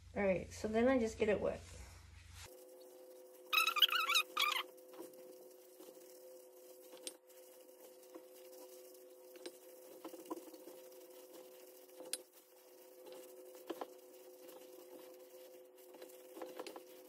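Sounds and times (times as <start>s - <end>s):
faint steady hum: 0.0s - 17.0s
rustling and squishing powder: 1.6s - 17.0s.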